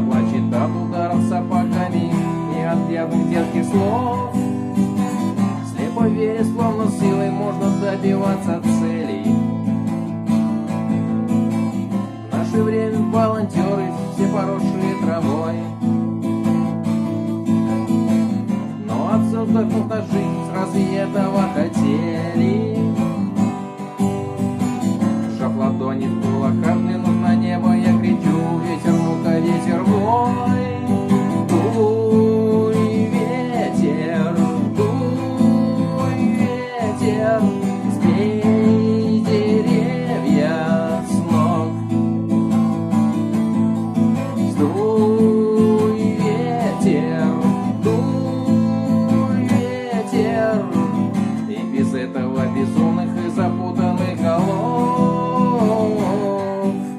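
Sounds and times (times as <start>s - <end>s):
sliding lead guitar melody: 0.0s - 56.9s
strummed acoustic guitar chords: 0.0s - 56.9s.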